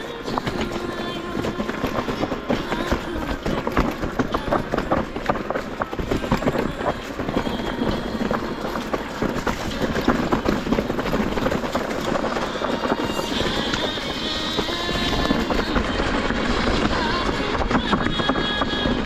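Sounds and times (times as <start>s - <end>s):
bike rattling over rocks: 0.0s - 19.0s
wind noise on microphone: 0.0s - 19.0s.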